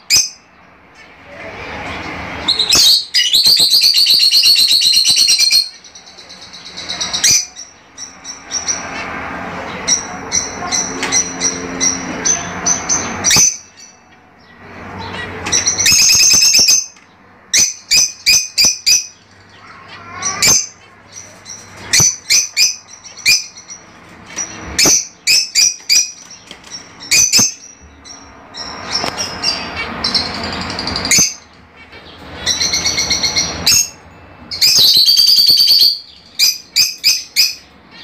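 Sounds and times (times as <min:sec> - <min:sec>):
lovebirds chirping shrilly: 0:00.0 - 0:38.0.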